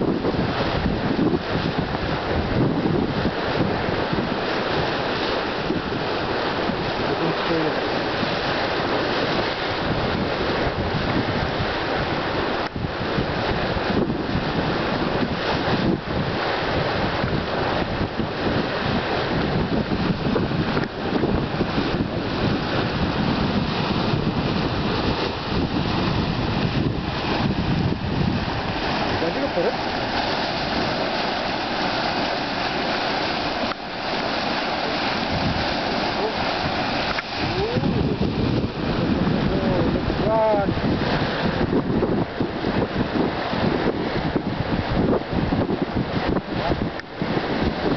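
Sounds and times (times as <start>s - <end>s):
hot spring boiling and gurgling: 0.0s - 47.9s
wind buffeting microphone: 0.0s - 47.9s.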